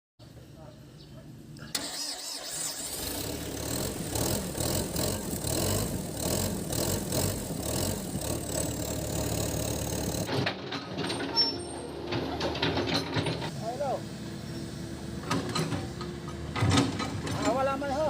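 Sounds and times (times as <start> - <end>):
excavator diesel engine running: 1.8 - 18.0.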